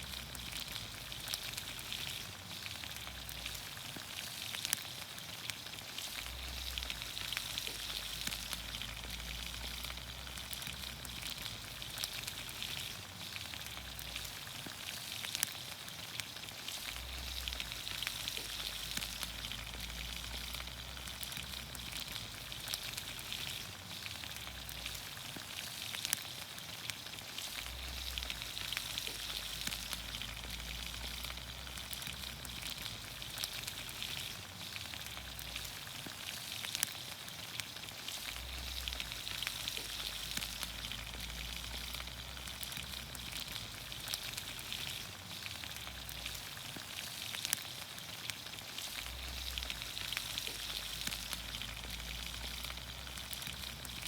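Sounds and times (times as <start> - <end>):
pops and crackles: 0.0 - 54.0
vegetables sizzling in oil: 0.0 - 54.0.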